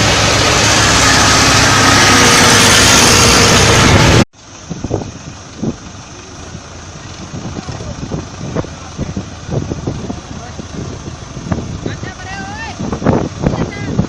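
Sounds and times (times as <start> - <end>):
tractor diesel engines under load: 0.0 - 14.0.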